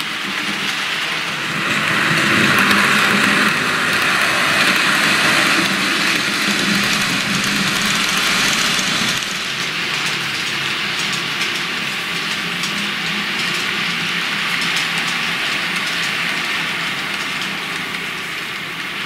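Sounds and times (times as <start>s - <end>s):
model train motor humming: 0.0s - 19.0s
model train rolling over track: 0.0s - 19.0s.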